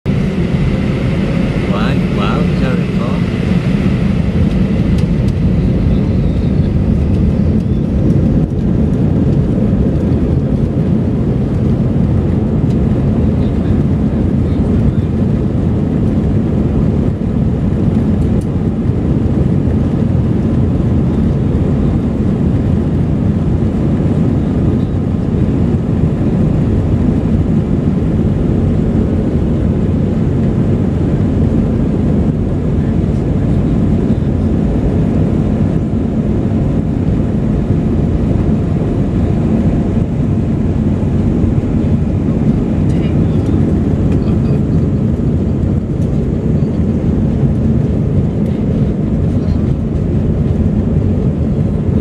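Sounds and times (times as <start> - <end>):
jet engines at takeoff power: 0.1 - 52.0.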